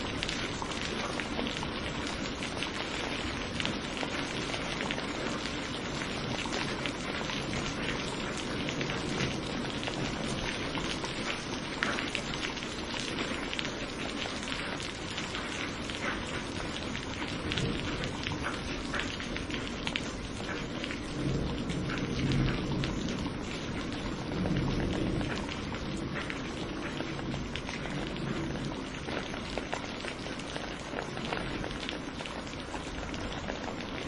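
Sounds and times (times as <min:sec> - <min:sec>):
low rumbles of thunder: 0:00.0 - 0:13.8, 0:16.0 - 0:32.2
heavy rain pattering: 0:00.0 - 0:34.0.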